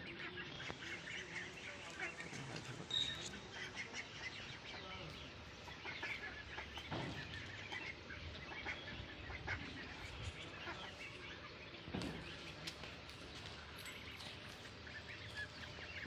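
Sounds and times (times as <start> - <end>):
ducks peeping and chirping: 0.0 - 16.0.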